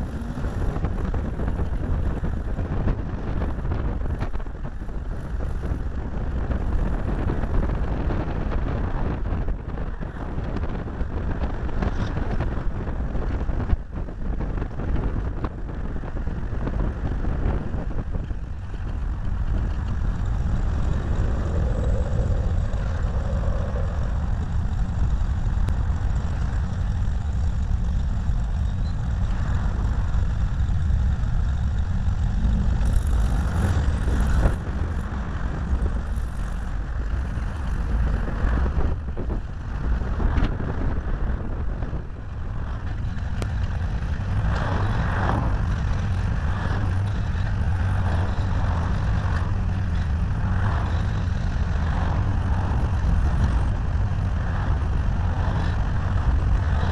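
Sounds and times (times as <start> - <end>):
road and wind rumble: 0.0 - 56.9.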